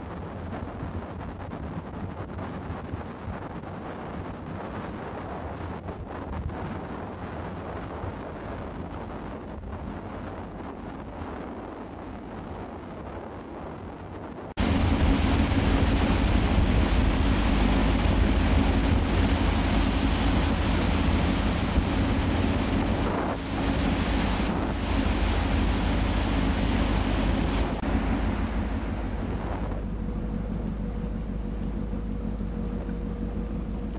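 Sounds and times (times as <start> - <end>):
ferry engines and propeller wash: 0.0 - 33.9
wind on microphone: 0.0 - 33.9.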